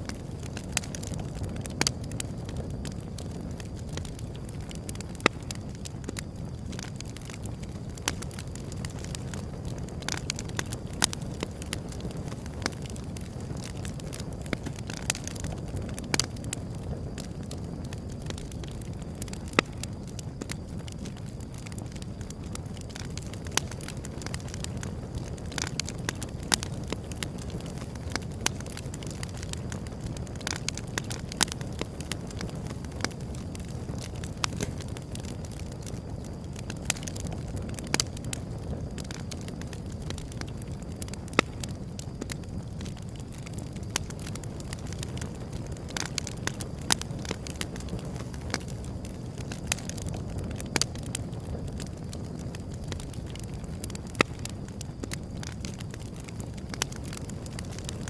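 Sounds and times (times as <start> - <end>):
fire crackles and pops: 0.0 - 58.0
wood fire rumbling: 0.0 - 58.0.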